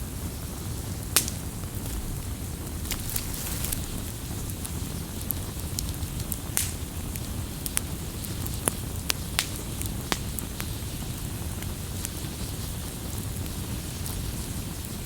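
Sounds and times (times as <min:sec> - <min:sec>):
campfire crackling and popping: 0:01.0 - 0:14.5.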